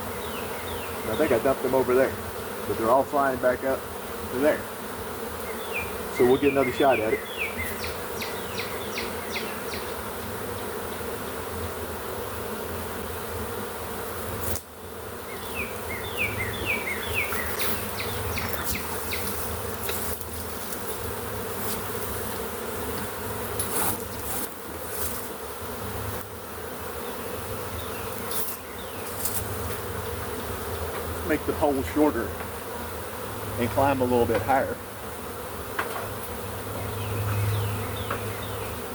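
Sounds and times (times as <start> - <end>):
bee swarm buzzing: 0.0 - 38.9.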